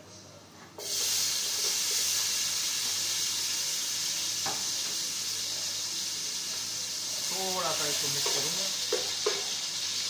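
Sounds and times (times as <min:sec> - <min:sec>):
tomatoes sizzling in a pot: 0:00.8 - 0:10.0.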